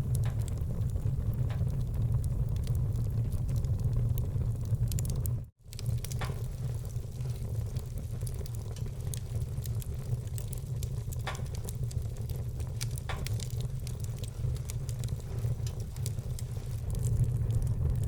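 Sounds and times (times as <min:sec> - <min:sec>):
fire pops: 0:00.0 - 0:18.0
wood fire crackling: 0:00.0 - 0:18.0.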